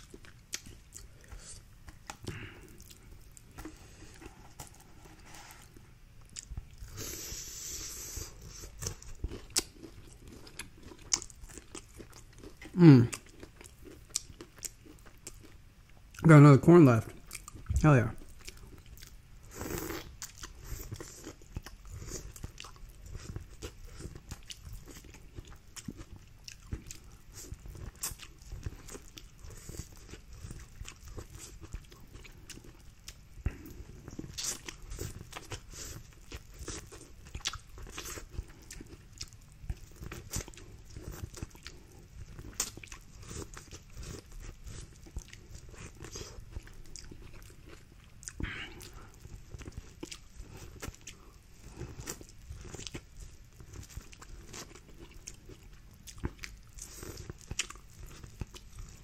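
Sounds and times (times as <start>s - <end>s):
chewing corn on the cob: 0.0s - 16.2s, 17.1s - 59.0s.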